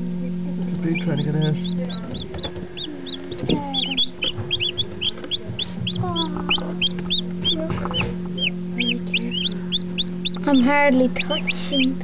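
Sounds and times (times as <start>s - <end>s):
steady low hum: 0.0s - 12.0s
chicks peeping: 0.6s - 12.0s.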